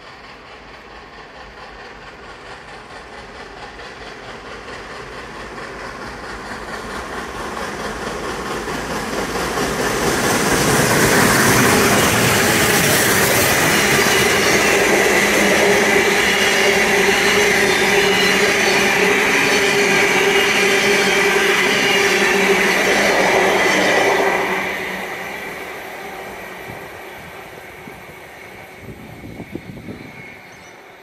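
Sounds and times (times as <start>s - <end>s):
steam locomotives passing: 0.0s - 31.0s.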